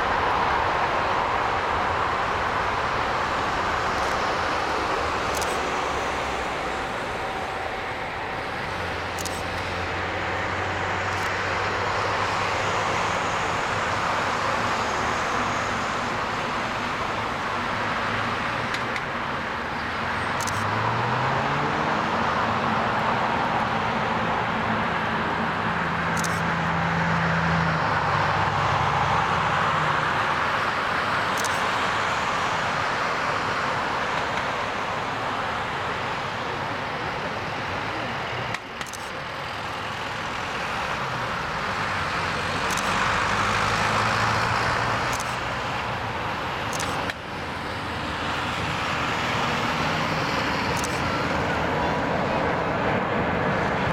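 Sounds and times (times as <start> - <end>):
distant jet roar: 0.0 - 53.9.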